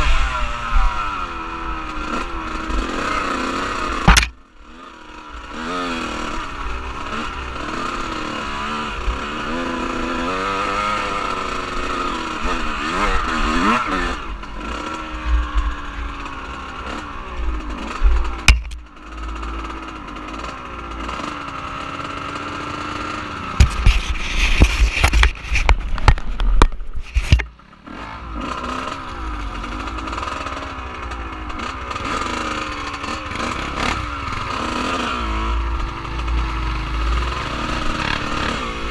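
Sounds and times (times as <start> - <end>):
off-road vehicle engine revving: 0.0 - 24.7, 27.8 - 38.9.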